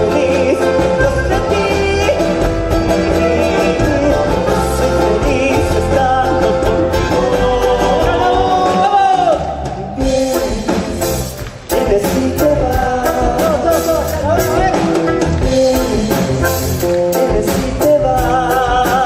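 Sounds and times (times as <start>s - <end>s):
folk instrumental accompaniment: 0.0s - 19.0s.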